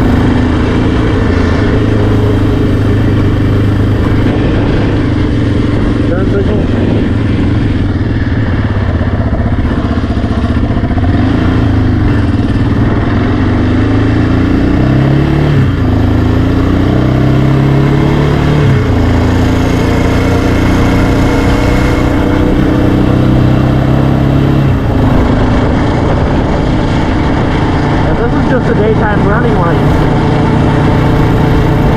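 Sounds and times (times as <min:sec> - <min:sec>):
atv engine revving: 0:00.0 - 0:31.9.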